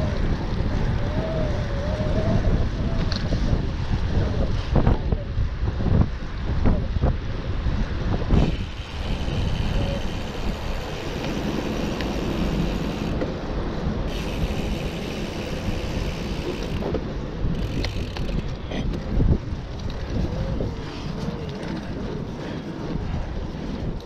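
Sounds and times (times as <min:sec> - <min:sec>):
bike tyres on asphalt: 0:00.0 - 0:24.0
wind rushing over microphone: 0:00.0 - 0:24.0.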